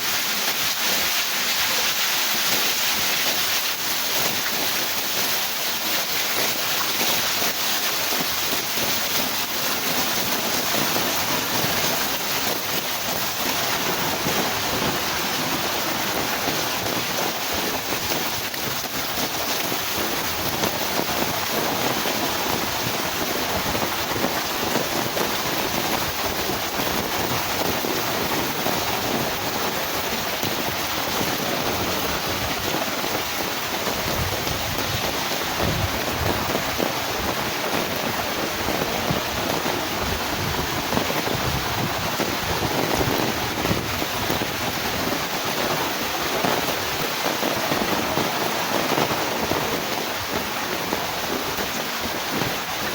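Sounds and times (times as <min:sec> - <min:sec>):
heavy rain in strong wind: 0:00.0 - 0:52.9.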